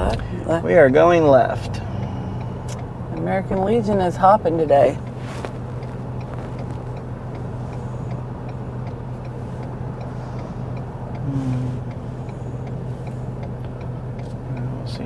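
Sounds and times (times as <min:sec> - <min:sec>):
truck engine humming: 0:00.0 - 0:15.0
turn signal ticking: 0:00.0 - 0:15.0.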